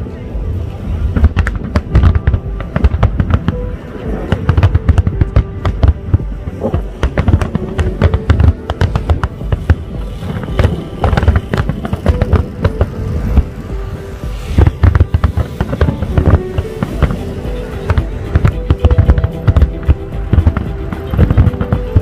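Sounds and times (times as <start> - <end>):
fireworks crackling: 0.0 - 22.0
fireworks bursting: 0.5 - 22.0.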